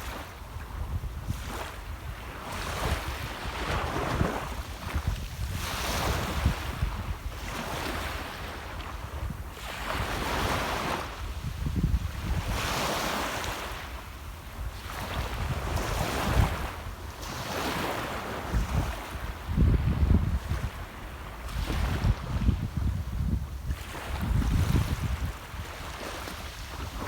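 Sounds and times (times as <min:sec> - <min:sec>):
wind buffeting microphone: 0:00.0 - 0:13.8, 0:14.4 - 0:27.0.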